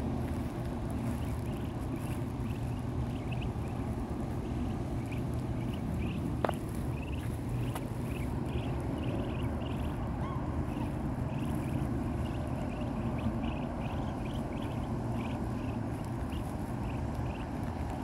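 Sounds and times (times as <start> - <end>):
steady low rumble: 0.0 - 18.0
ducklings peeping: 0.1 - 18.0.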